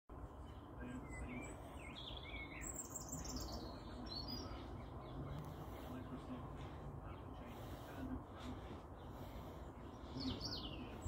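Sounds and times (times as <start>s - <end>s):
small birds chirping: 0.1s - 11.0s
steady low rumble: 0.1s - 11.0s.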